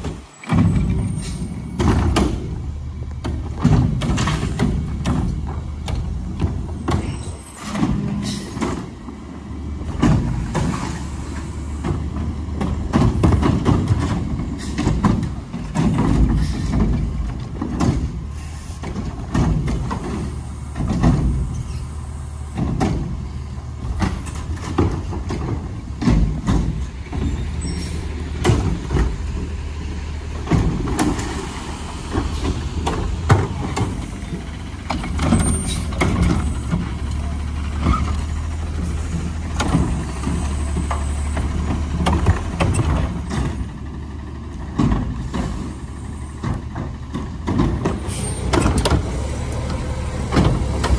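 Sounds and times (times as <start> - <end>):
knocks and clanks: 0.0 - 9.1, 9.8 - 21.9, 22.5 - 50.9
garbage truck diesel engine running: 0.0 - 50.9.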